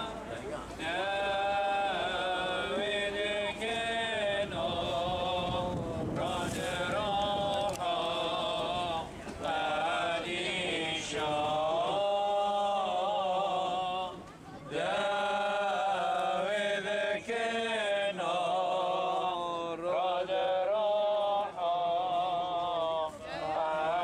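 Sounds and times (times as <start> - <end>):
man singing a hymn: 0.0 - 14.2, 14.8 - 24.0.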